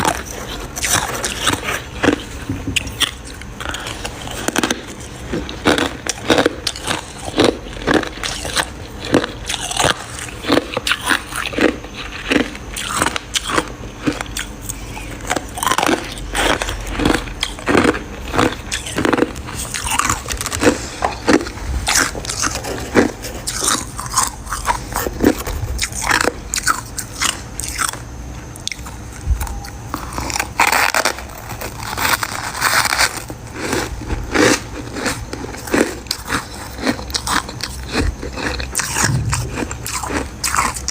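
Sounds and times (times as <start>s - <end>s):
crunching ice: 0.0s - 28.0s, 29.9s - 40.9s.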